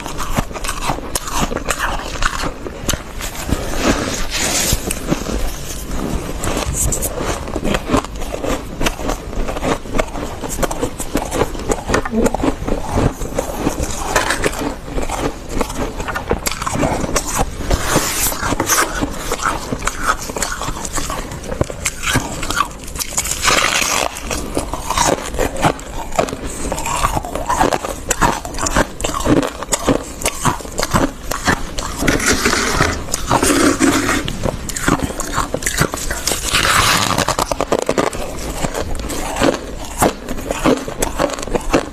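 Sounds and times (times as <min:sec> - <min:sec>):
frost being crunched and chewed: 0:00.0 - 0:41.9.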